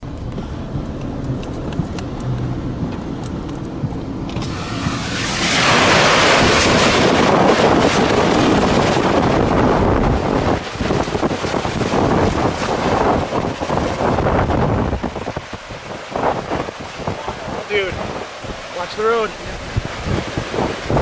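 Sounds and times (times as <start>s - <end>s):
car road rumble: 0.0s - 21.0s
wind buffeting microphone: 0.0s - 21.0s.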